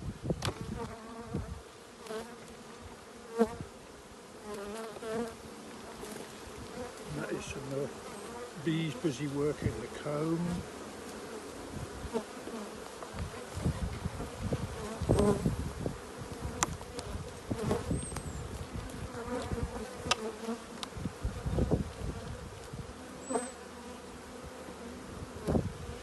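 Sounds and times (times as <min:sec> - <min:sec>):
honeybees humming: 0:00.2 - 0:26.0.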